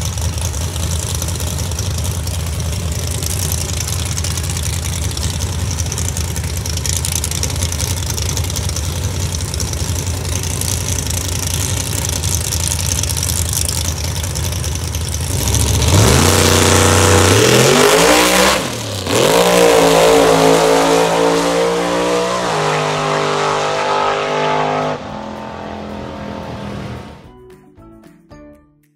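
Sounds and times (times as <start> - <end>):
drag car engine revving: 0.0 - 27.2.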